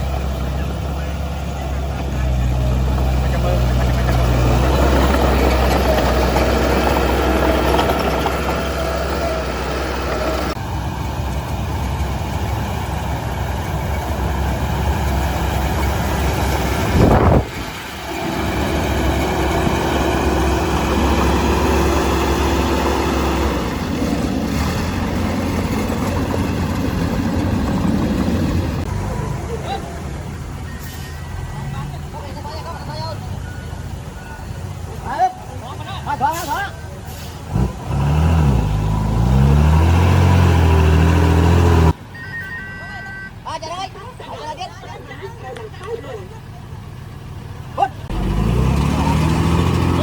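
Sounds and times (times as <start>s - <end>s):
heavy machinery diesel engine: 0.0s - 43.4s, 44.0s - 50.0s.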